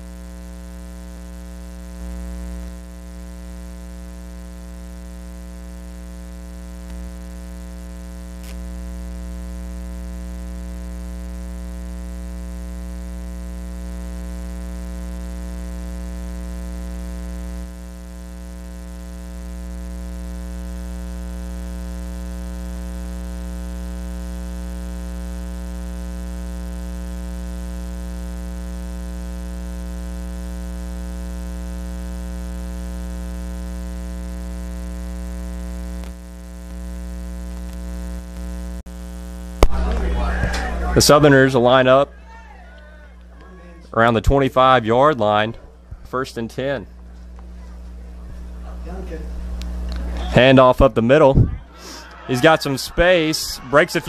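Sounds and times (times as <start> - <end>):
buzzy electrical hum: 0.0 - 54.0.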